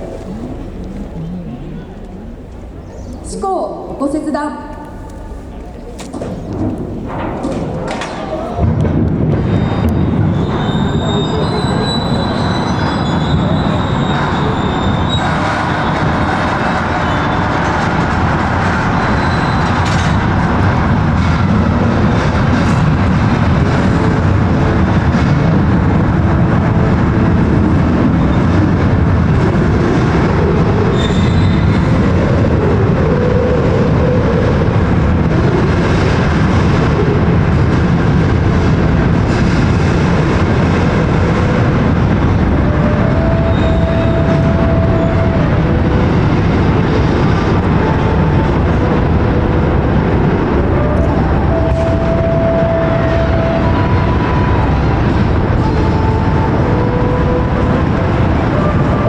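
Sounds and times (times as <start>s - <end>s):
ship hull sliding down slipway: 5.7s - 59.0s.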